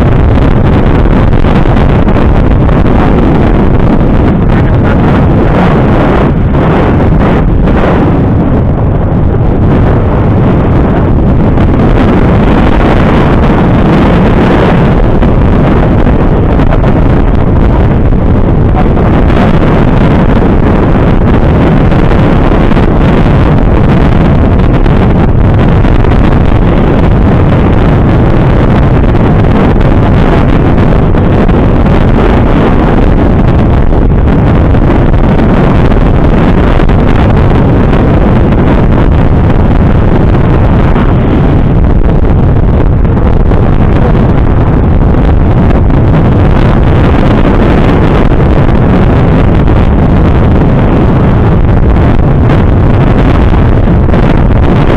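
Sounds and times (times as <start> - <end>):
motorcycle engine and road noise: 0.0 - 54.9
wind rush on microphone: 0.0 - 54.9.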